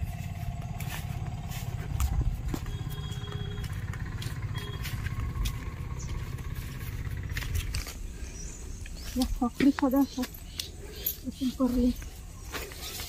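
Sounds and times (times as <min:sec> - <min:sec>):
footstep clicks: 0:00.2 - 0:08.2, 0:08.8 - 0:13.0.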